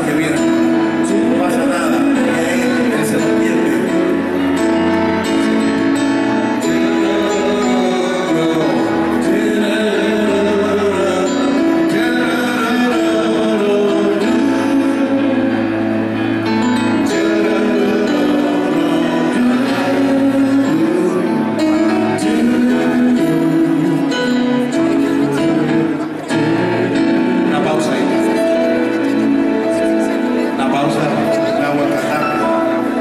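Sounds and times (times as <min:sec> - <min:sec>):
live band playing slow ballad: 0:00.0 - 0:33.0.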